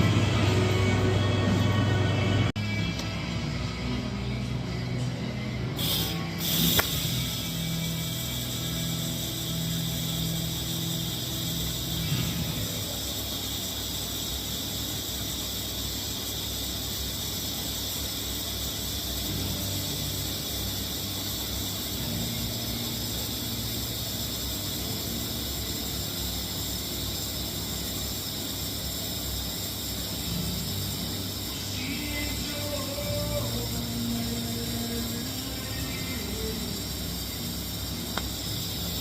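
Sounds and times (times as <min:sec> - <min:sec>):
even hiss: 0:00.0 - 0:39.0.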